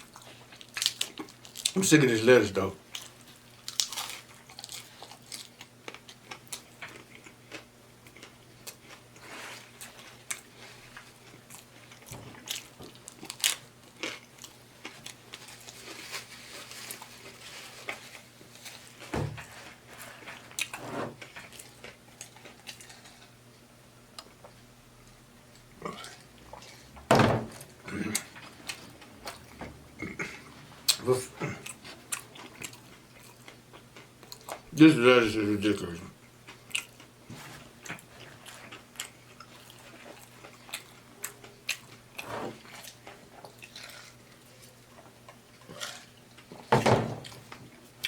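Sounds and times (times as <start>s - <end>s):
chewing with crisp crunches: 0.0s - 1.9s, 2.8s - 19.1s, 19.7s - 27.0s, 27.6s - 34.8s, 35.6s - 48.0s.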